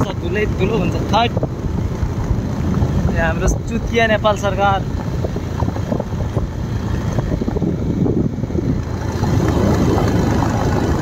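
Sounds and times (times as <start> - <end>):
vehicle engine and road rumble: 0.0 - 11.0
wind buffeting microphone: 0.0 - 11.0.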